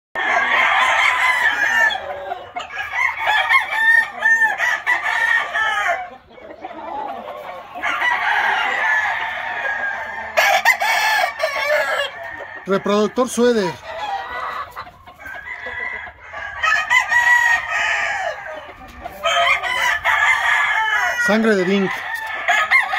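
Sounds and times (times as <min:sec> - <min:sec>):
rooster crowing: 0:00.2 - 0:06.1, 0:07.7 - 0:22.9
rooster clucking: 0:00.2 - 0:22.9.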